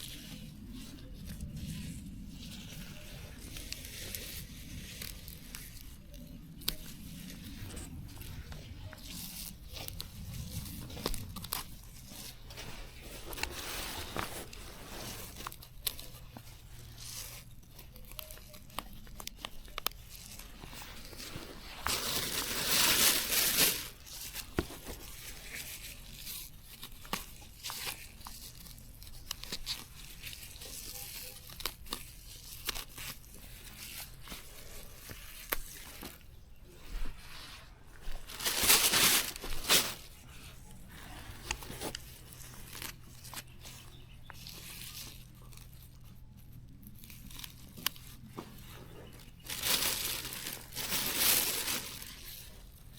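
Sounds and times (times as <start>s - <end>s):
loud ripping: 0.0s - 36.2s, 37.9s - 46.0s, 46.6s - 52.9s
plants being torn up: 0.0s - 52.9s
stems and leaves rustling: 0.0s - 52.9s.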